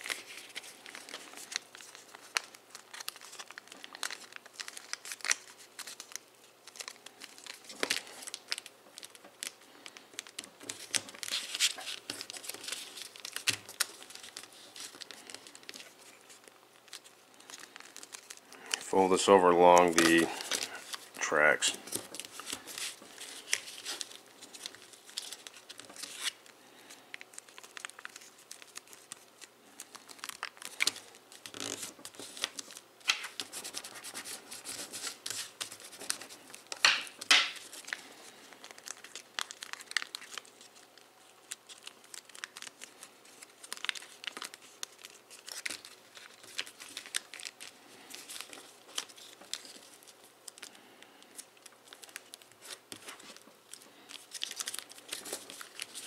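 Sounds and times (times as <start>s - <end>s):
paper crinkling and rustling: 0.0s - 56.0s.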